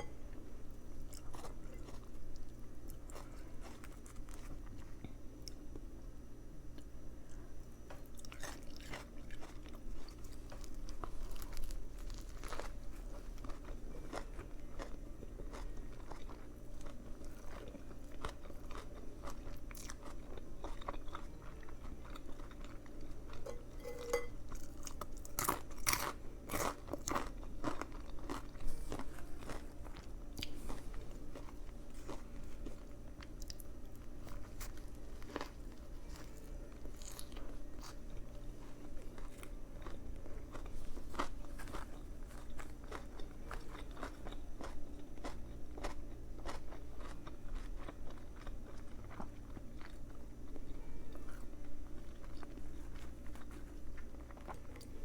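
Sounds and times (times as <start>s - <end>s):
person chewing crunchy food: 0.0s - 5.8s, 6.7s - 55.0s.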